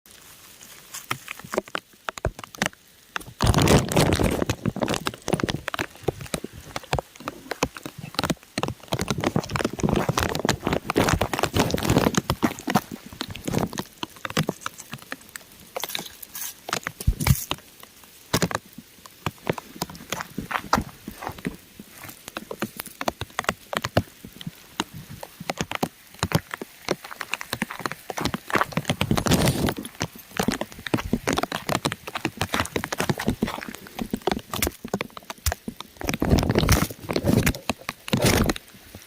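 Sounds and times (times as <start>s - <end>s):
raindrops pattering on rock: 0.1s - 39.0s.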